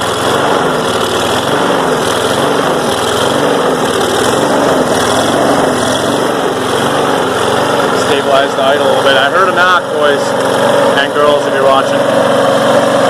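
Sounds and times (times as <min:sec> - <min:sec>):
engine knocking: 0:00.0 - 0:13.0
lawn mower engine revving: 0:00.0 - 0:13.0.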